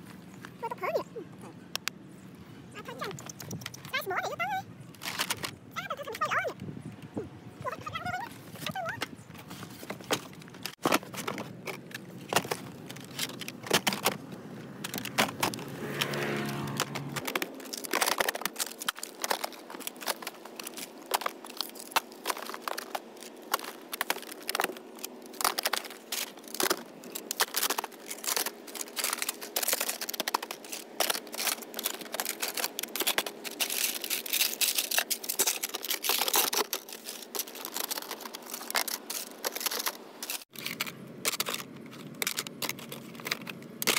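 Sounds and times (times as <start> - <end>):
phones clicking and clattering: 2.8 - 4.3, 7.7 - 43.9.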